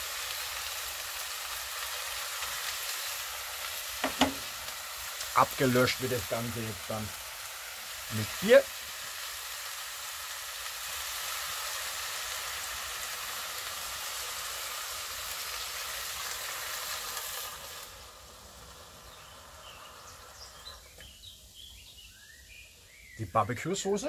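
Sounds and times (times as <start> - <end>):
food sizzling in hot oil: 0.0 - 23.2.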